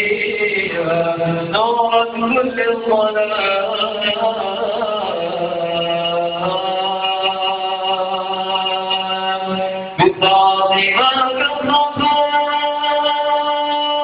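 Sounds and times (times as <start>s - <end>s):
man chanting devotional song: 0.0s - 14.0s.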